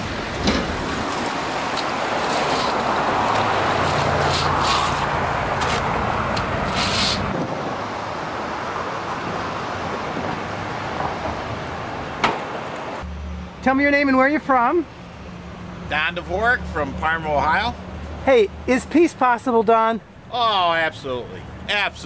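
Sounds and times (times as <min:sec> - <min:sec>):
steady traffic background: 0:00.0 - 0:22.0.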